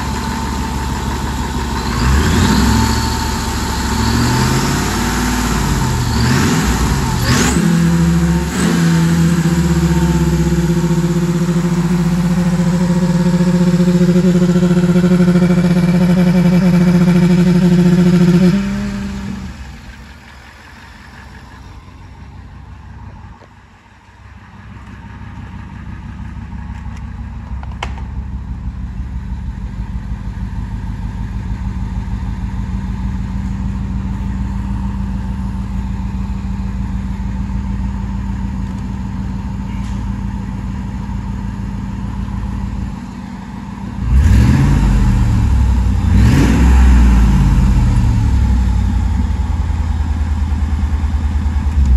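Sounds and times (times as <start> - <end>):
car engine revving and idling: 0.0 - 51.9.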